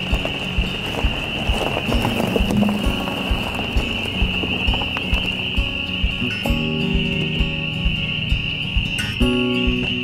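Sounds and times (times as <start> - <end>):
background music with soft beat: 0.0 - 10.0.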